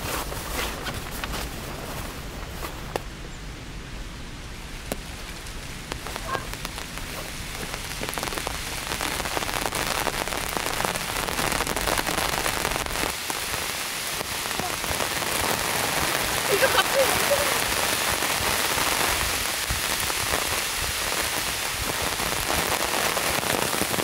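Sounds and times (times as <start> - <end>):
rain falling: 0.0 - 24.0
raindrops ticking: 4.5 - 24.0.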